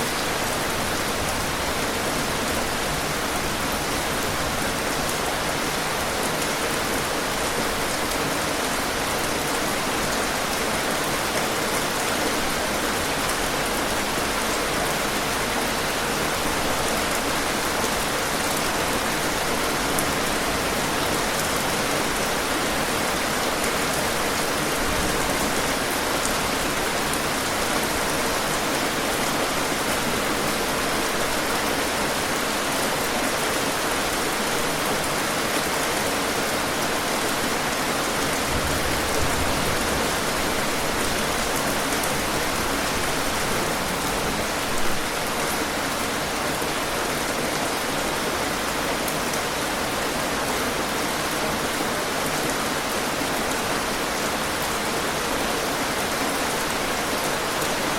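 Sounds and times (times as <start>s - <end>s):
heavy rain falling: 0.0s - 57.9s
loud rain patter: 0.0s - 57.9s.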